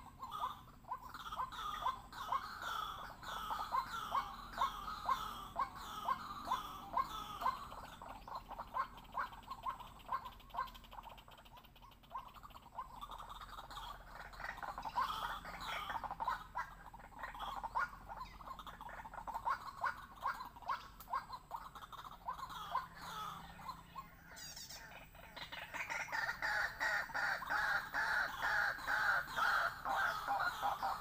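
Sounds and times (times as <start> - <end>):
bird calling: 0.0 - 31.0.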